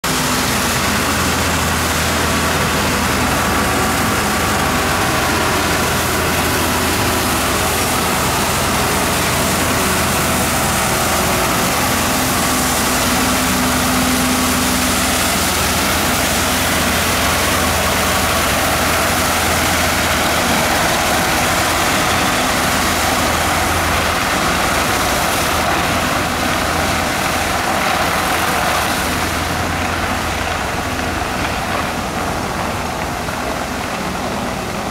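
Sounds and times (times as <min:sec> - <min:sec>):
street sweeper engine running: 0:00.0 - 0:34.9.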